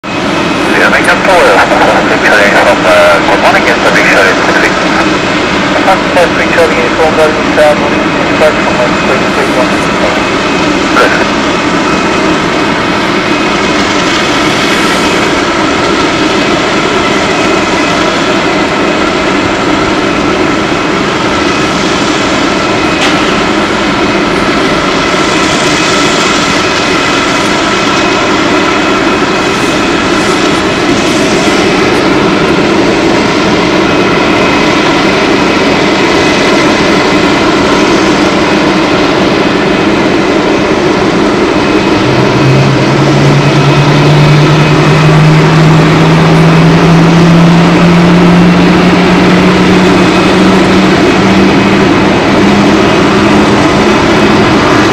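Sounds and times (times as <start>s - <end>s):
jet engine spooling up: 0.0s - 54.9s
jet engines whining and roaring: 0.0s - 54.9s.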